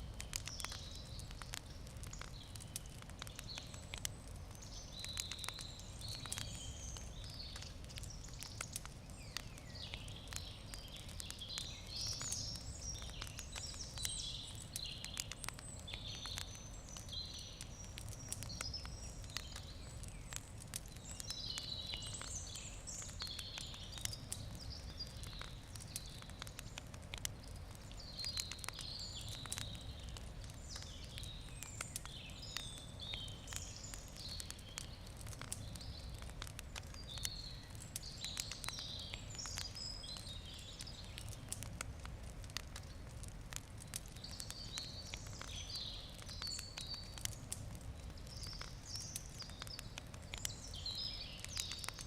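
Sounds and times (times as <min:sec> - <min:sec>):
campfire crackling and popping: 0:00.0 - 0:52.0
birds singing: 0:00.1 - 0:41.6, 0:43.8 - 0:52.0.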